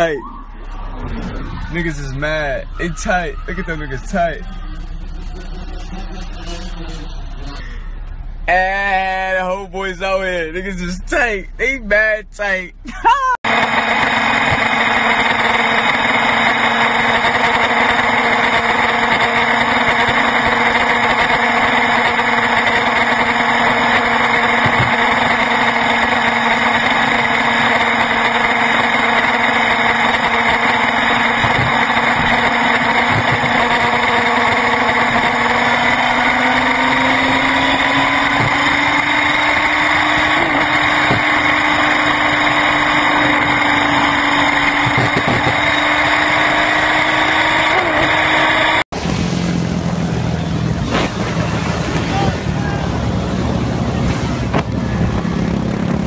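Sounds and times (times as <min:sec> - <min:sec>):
motorcycle engine running: 0:03.2 - 0:09.2, 0:13.4 - 0:56.0.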